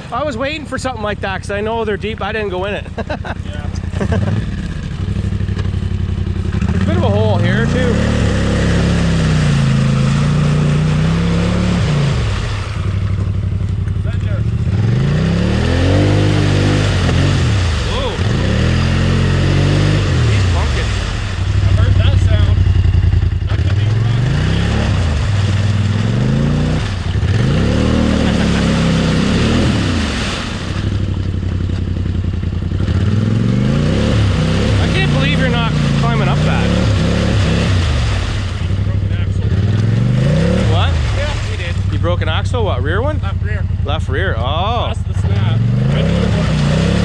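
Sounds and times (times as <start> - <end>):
second engine steady note: 0.0 - 46.6
atv engine revving: 0.0 - 47.0.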